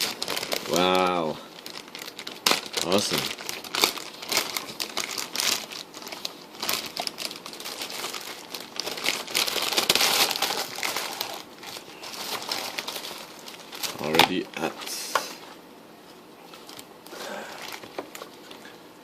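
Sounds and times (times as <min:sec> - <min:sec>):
plastic packaging crinkling: 0:00.0 - 0:15.6, 0:16.3 - 0:18.8.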